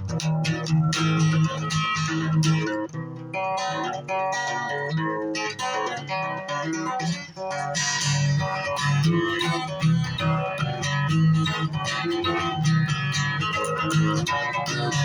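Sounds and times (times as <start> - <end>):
guitar rapid plucked notes: 0.0 - 15.0.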